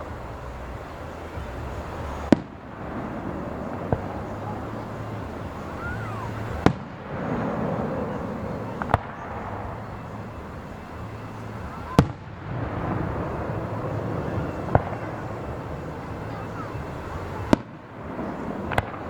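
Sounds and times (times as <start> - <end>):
fireworks bangs: 0.0 - 19.0
outdoor crowd noise: 0.0 - 19.0.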